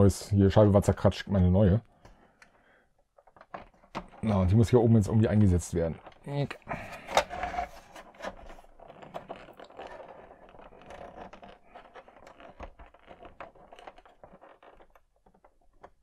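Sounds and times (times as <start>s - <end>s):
plastic parts scraping and clicking: 0.8s - 16.0s.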